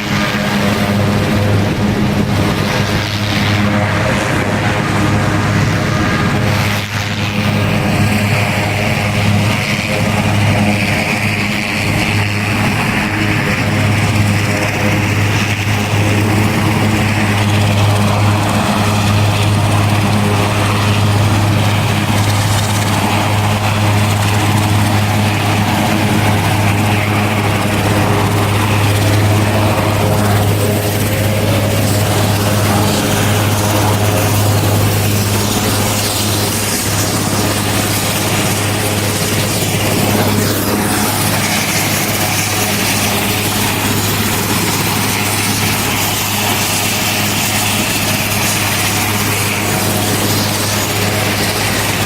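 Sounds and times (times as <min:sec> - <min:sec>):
propeller aircraft engine running: 0:00.0 - 0:52.0.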